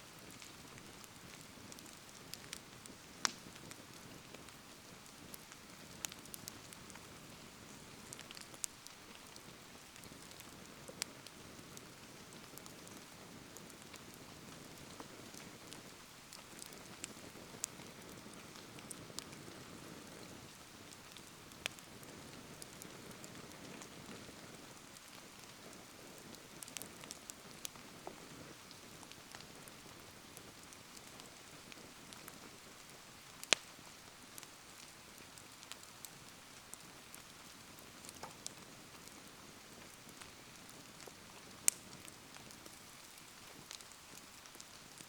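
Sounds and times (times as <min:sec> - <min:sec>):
steady rain falling: 0:00.0 - 0:45.0
wood bonfire crackling: 0:00.0 - 0:45.0.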